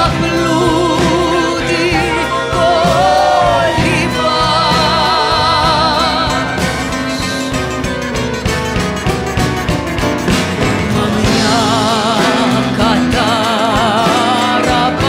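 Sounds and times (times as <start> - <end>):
live band playing: 0.0 - 15.0
percussion: 0.0 - 15.0.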